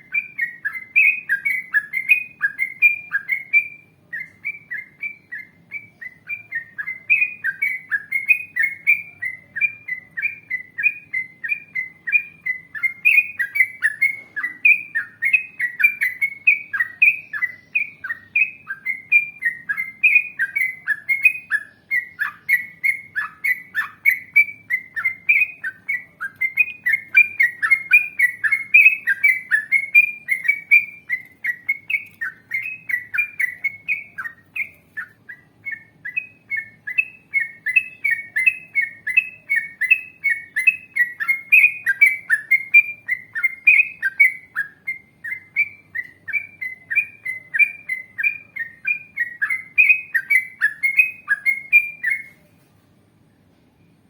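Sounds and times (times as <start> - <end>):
bird singing whistled notes: 0.0 - 52.5.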